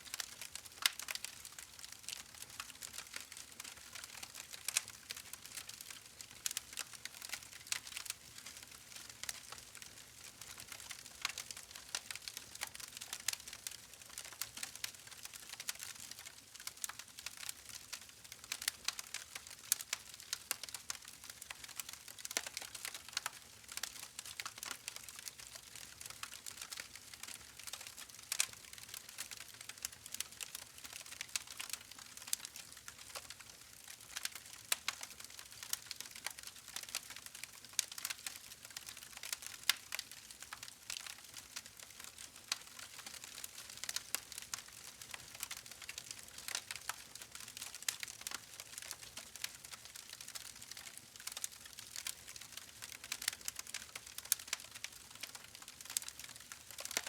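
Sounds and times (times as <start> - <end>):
wood campfire crackling: 0.1 - 57.0.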